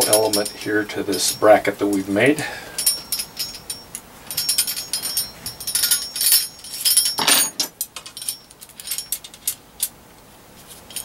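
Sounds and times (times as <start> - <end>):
small metal parts clinking: 0.0 - 2.1, 2.7 - 10.0, 10.8 - 11.0.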